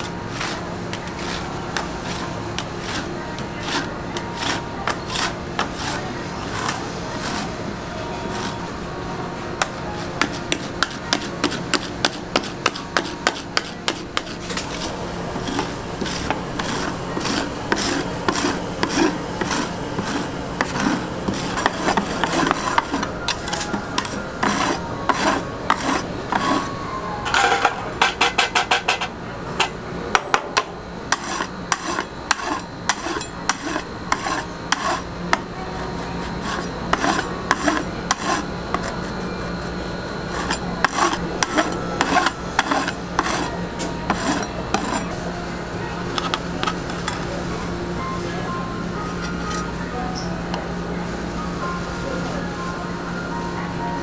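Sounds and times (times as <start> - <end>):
spatulas scraping on metal plate: 0.0 - 7.6, 8.2 - 8.7, 9.6 - 29.7, 31.1 - 45.2, 46.2 - 47.3.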